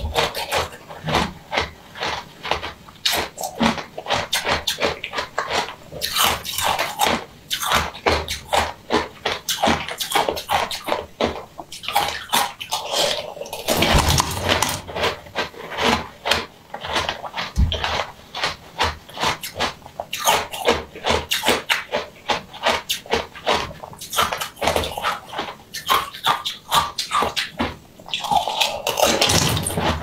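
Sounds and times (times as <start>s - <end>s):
wet chewing and slurping: 0.0s - 30.0s.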